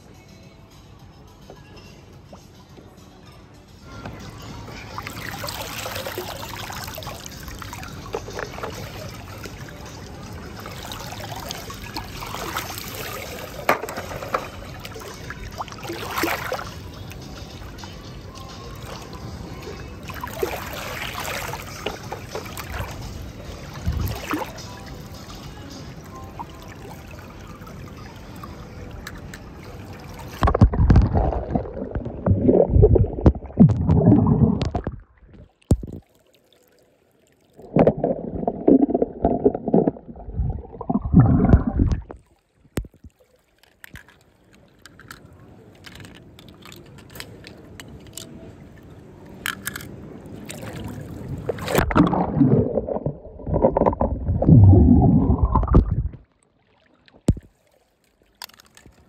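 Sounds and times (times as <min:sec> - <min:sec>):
water splashing and sloshing: 0:04.0 - 0:59.0.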